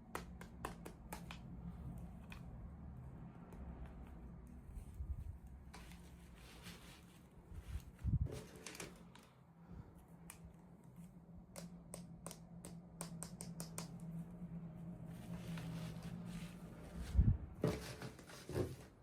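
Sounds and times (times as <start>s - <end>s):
faint steady hum: 0.0s - 18.1s.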